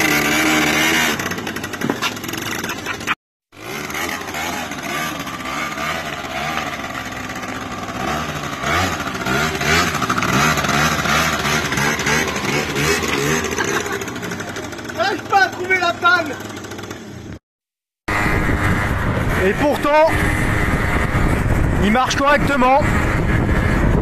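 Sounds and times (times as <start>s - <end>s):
two-stroke scooter engine running: 0.0s - 17.4s, 18.1s - 24.0s.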